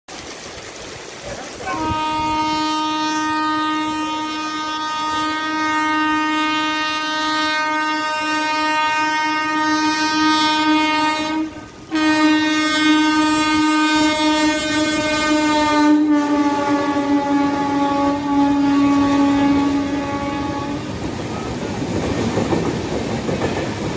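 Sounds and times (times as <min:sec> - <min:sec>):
locomotive horn blast: 0:01.6 - 0:21.0.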